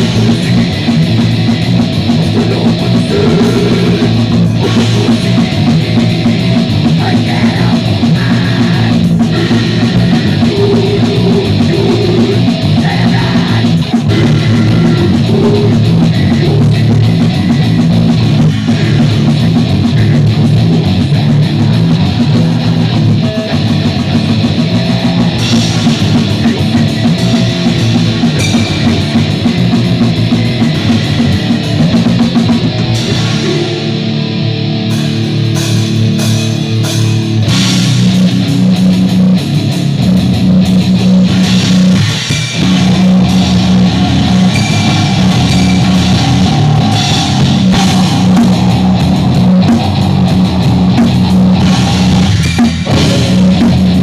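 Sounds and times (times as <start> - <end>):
loud grindcore band playing: 0.0 - 54.0.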